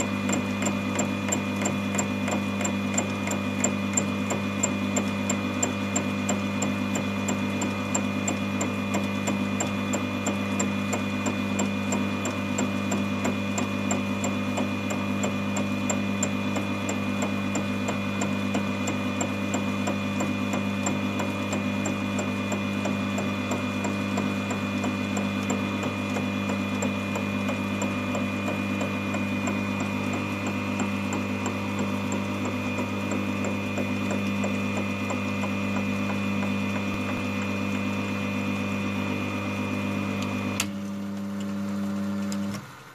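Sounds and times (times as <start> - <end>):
milling machine motor hum and whine: 0.0 - 42.9.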